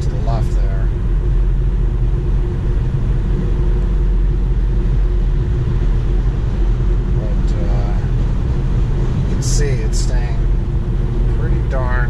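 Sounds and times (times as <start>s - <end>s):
car road and wind noise: 0.0s - 12.0s
faint steady hum: 0.0s - 12.0s.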